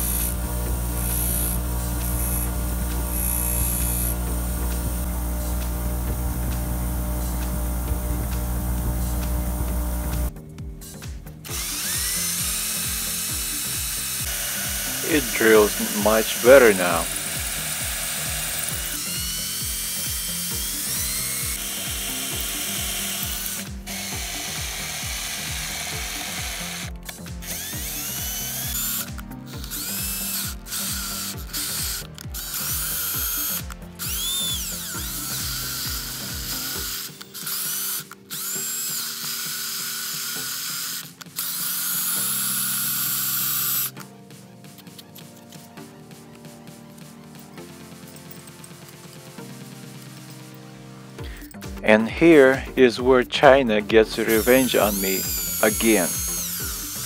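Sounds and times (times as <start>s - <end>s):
cordless drill boring metal: 0.0s - 44.0s, 53.5s - 57.0s.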